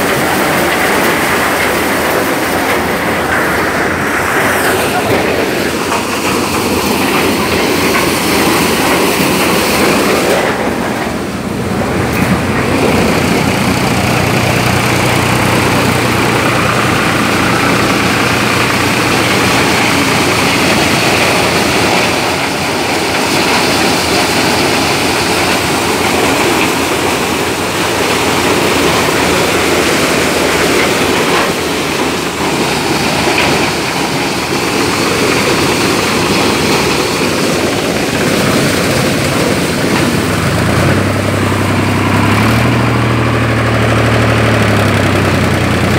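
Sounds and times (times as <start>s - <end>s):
threshing machine running: 0.0s - 45.9s
tractor diesel engine: 0.0s - 45.9s.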